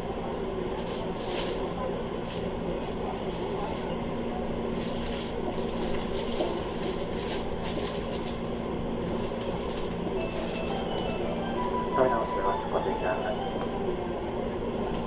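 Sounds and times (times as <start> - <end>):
faint background murmur: 0.0 - 15.0
train car low hum: 0.0 - 15.0.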